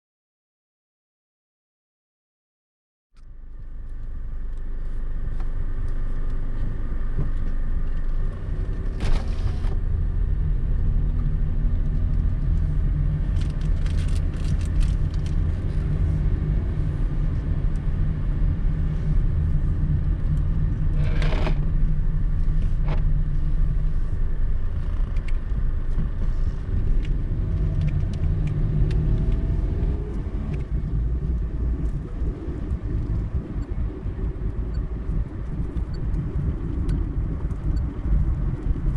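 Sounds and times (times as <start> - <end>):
car engine and tyre rumble: 3.2 - 38.9.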